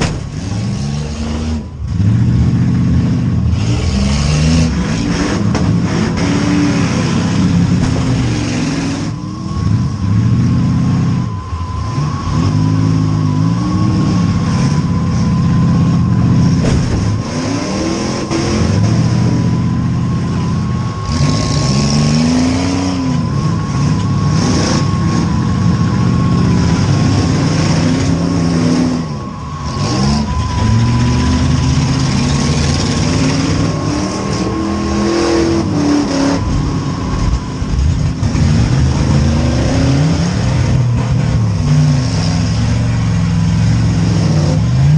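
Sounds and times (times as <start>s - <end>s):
car engines revving: 0.0s - 44.9s
thin high whine: 6.2s - 44.9s.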